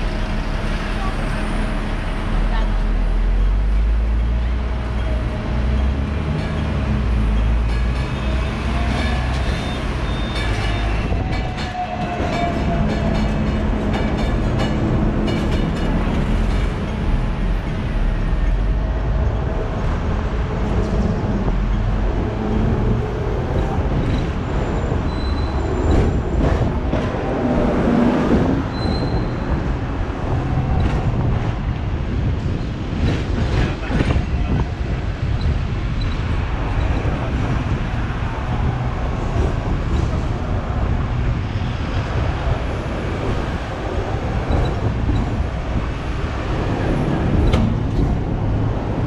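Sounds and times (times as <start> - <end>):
tram motor hum and whine: 0.0 - 49.0
wheels clacking over rail joints: 4.2 - 41.2, 41.9 - 49.0.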